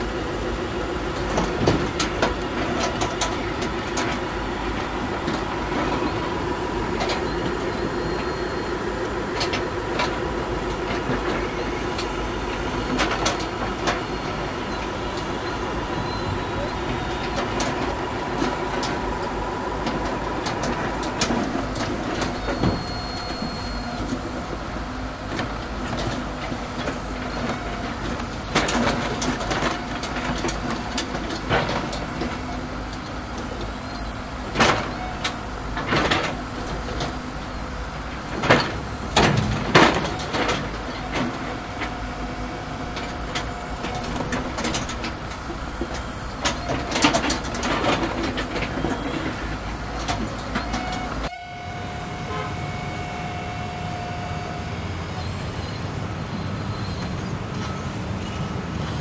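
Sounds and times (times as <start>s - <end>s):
whine of small motors: 0.0s - 59.0s.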